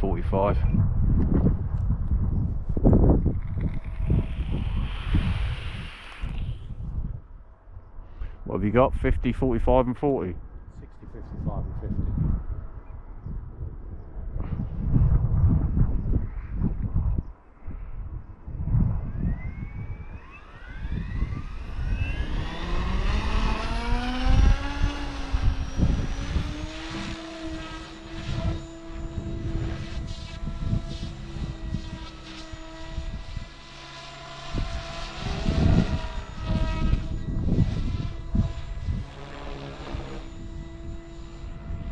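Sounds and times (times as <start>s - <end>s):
model helicopter whine: 0.0s - 8.8s, 14.0s - 41.9s
wind on microphone: 0.0s - 41.9s.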